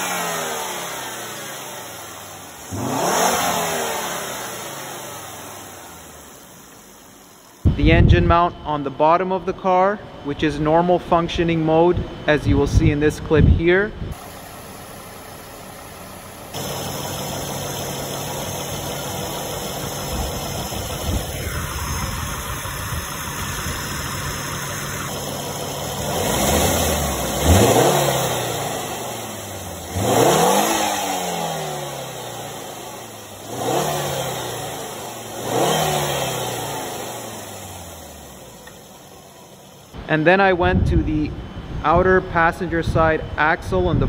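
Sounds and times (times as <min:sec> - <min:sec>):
car engine idling and revving: 0:00.0 - 0:08.6, 0:11.4 - 0:40.0.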